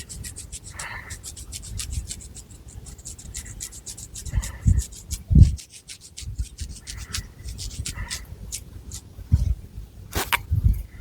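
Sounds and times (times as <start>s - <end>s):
fingernails scratching hair and scalp: 0.0s - 9.0s.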